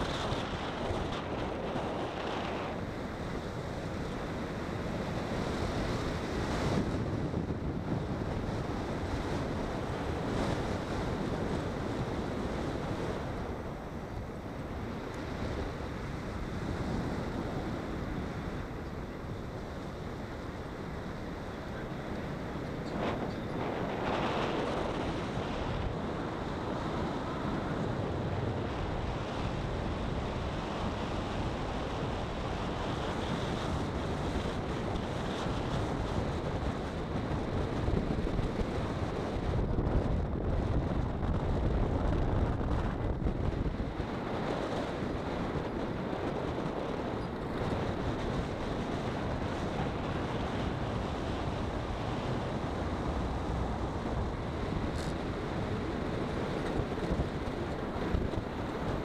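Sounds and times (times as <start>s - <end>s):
tyres rumbling on rough asphalt: 0.0s - 59.0s
wind buffeting microphone: 0.0s - 59.0s.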